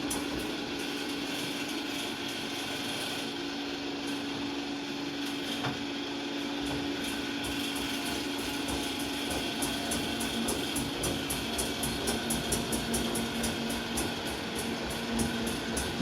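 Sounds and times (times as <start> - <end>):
steady motor whine: 0.0 - 16.0.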